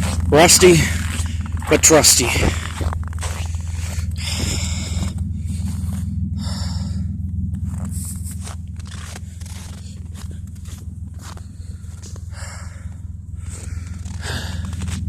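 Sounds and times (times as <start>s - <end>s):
car engine idling: 0.0s - 15.0s
scraping footsteps: 0.0s - 15.0s.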